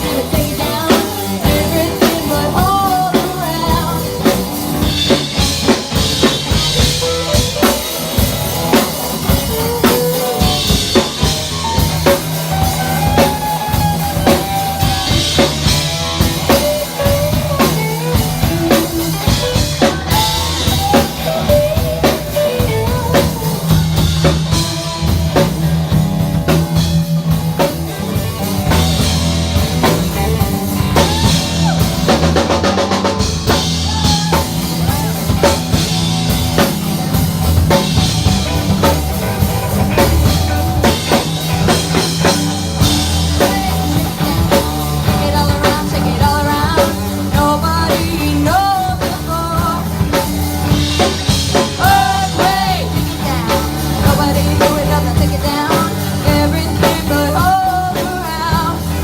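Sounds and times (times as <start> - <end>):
bass line: 0.0 - 59.0
funk rock band playing: 0.0 - 59.0.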